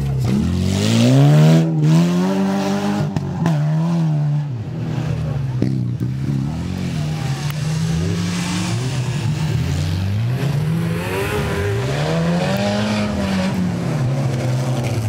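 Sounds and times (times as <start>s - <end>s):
off-road engines revving: 0.0s - 15.0s.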